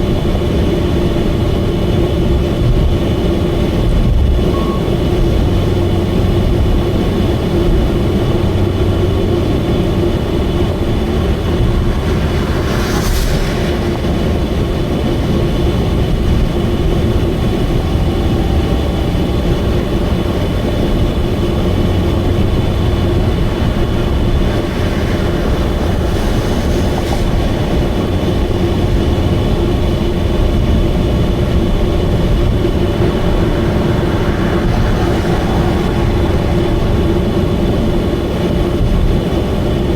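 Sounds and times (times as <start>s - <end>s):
car engine drone at highway speed: 0.0s - 39.9s
rushing wind: 0.0s - 39.9s.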